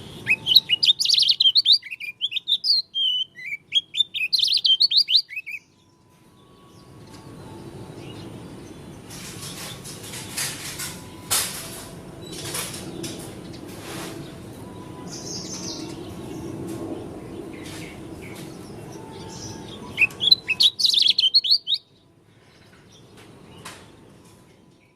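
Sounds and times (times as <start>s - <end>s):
bird chirping and twittering: 0.0s - 11.5s, 12.2s - 24.9s.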